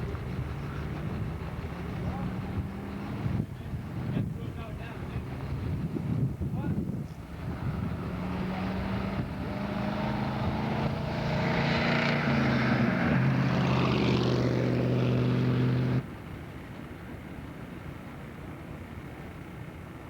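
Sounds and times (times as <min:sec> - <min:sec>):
engine running: 0:00.0 - 0:06.3, 0:07.1 - 0:20.0.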